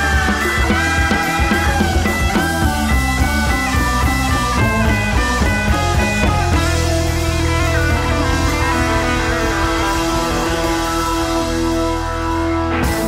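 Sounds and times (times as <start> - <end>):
bass notes: 0.0 - 13.0
rock music with guitar: 0.0 - 13.0.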